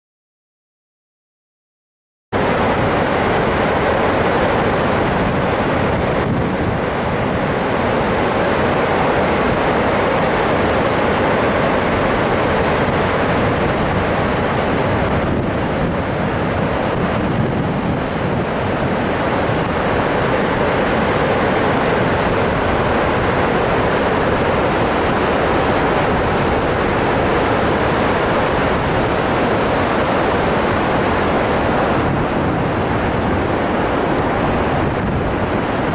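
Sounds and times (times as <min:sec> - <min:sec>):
loud rush of water: 0:02.4 - 0:35.9.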